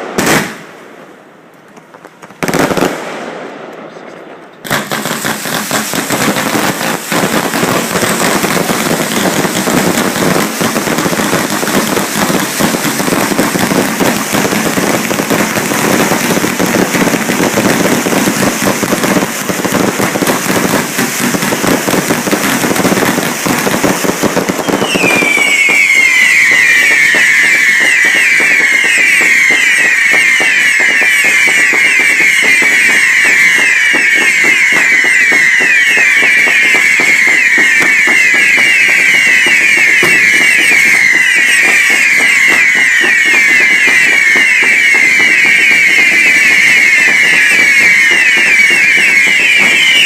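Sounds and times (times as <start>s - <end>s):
fireworks crackling and banging: 0.0s - 50.0s
whistling firework shells: 1.7s - 50.0s.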